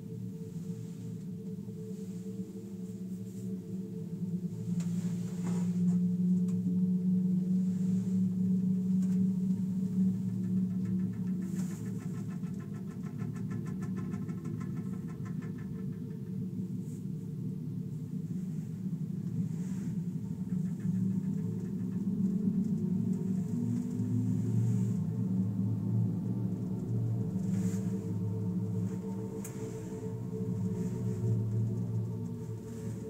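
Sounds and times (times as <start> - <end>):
gondola cabin hum and rumble: 0.0 - 33.0.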